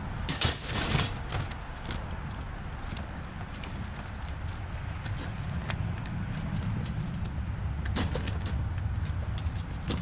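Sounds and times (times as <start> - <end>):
steady low rumble: 1.2 - 10.0.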